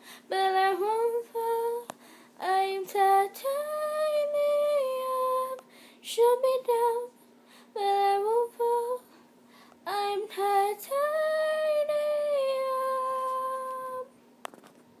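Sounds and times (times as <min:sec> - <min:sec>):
girl singing unaccompanied: 0:00.3 - 0:09.1, 0:09.8 - 0:14.2.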